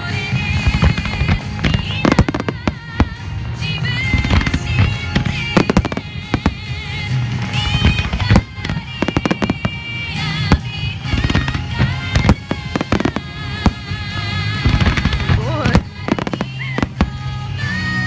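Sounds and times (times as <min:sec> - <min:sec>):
fireworks bangs: 0:00.0 - 0:18.0
music with singing voice: 0:00.0 - 0:18.0.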